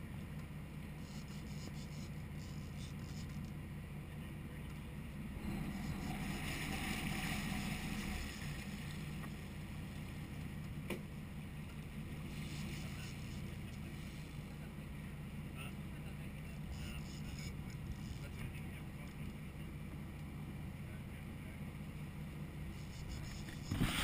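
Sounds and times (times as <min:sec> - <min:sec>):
boat engine running: 0:00.0 - 0:24.0
water and wind noise: 0:00.0 - 0:24.0.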